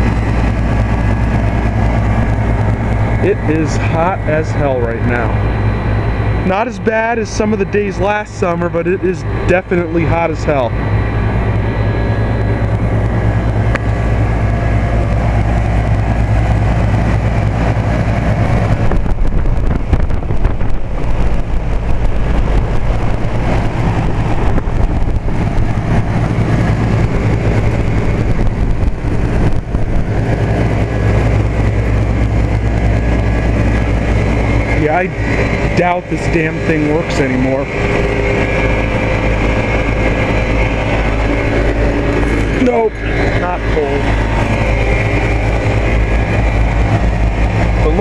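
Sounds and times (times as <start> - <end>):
condenser fan rushing: 0.0 - 48.0
condensing unit compressor hum: 0.0 - 48.0.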